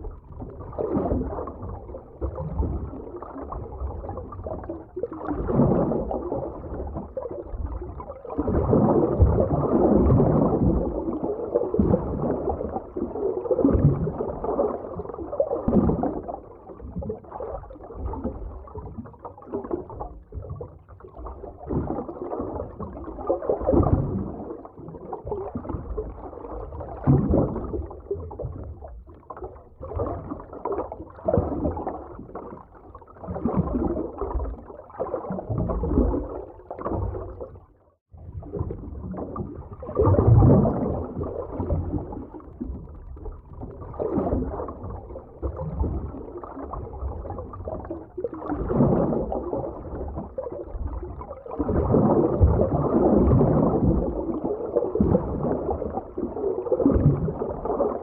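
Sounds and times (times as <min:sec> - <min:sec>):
gurgling and bubbling water: 0:00.0 - 0:58.0
underwater water surges: 0:00.0 - 0:58.0.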